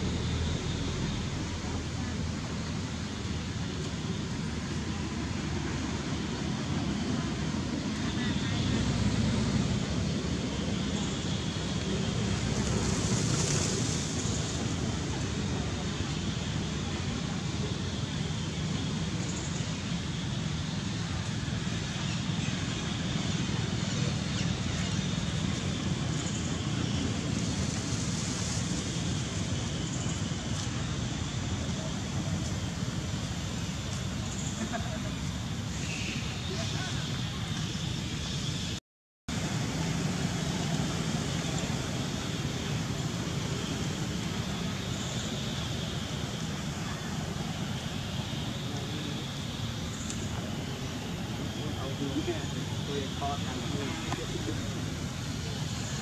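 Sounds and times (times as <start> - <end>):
faint hiss: 0.0 - 56.0.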